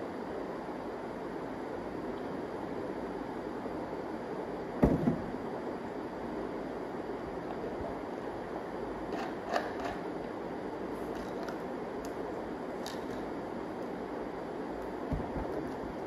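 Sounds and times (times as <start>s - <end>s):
room background noise: 0.0s - 16.0s.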